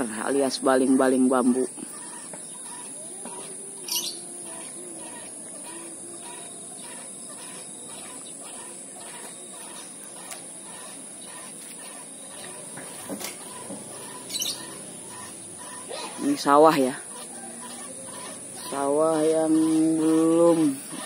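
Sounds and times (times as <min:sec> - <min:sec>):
steady high-pitched drone: 0:00.0 - 0:21.0
short bird calls: 0:01.8 - 0:19.8.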